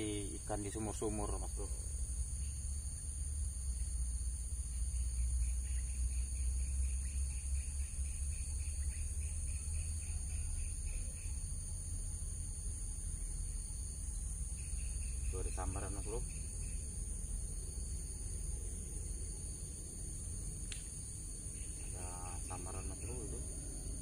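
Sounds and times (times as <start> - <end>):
high-pitched insect drone: 0.0 - 24.0.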